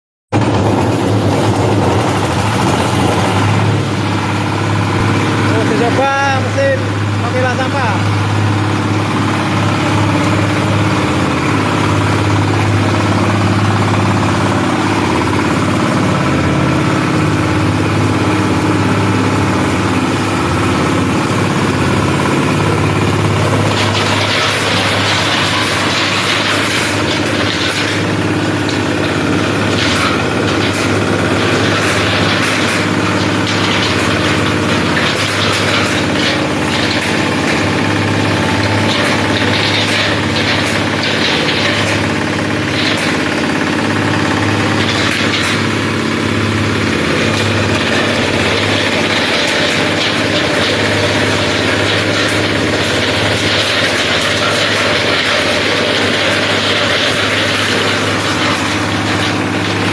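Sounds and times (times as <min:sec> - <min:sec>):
shredding machine humming: 0:00.3 - 0:59.9
irregular clicks and rattles: 0:00.7 - 0:59.9.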